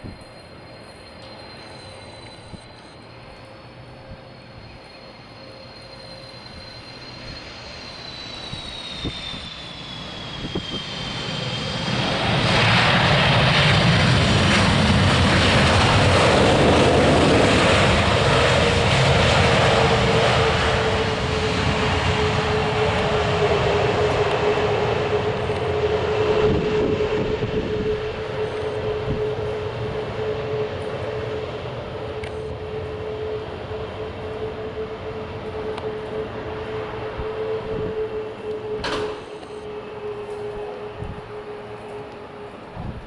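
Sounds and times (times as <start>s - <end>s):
jet engine whine: 0.0s - 43.0s
jet noise: 0.0s - 43.0s.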